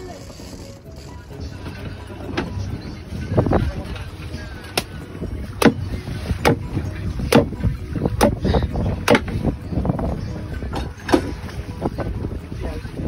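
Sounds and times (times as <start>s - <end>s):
boat motor rumble: 0.0s - 13.0s
wind: 0.0s - 13.0s.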